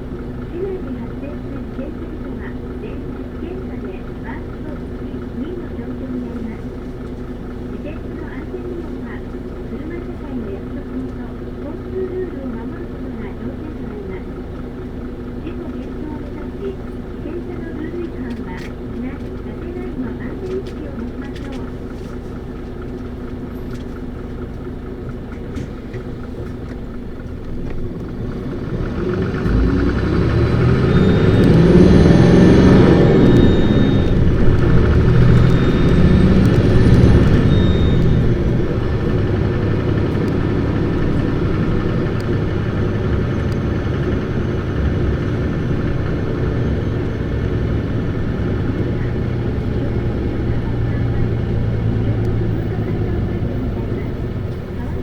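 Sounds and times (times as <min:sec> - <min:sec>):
bus diesel engine revving: 0:00.0 - 0:55.0.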